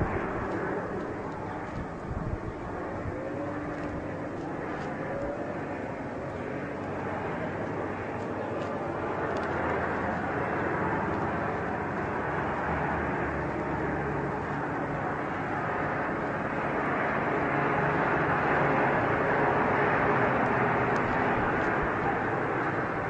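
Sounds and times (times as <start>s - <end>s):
helicopter engines and rotor running: 0.0s - 23.0s.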